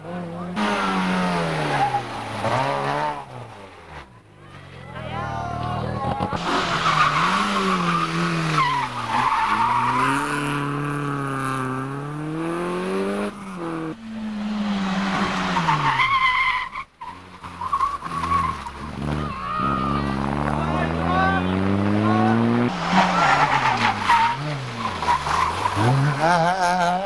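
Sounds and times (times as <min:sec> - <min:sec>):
rally car engines revving: 0:00.0 - 0:27.0
tyres skidding on grit: 0:00.6 - 0:04.2, 0:05.6 - 0:27.0.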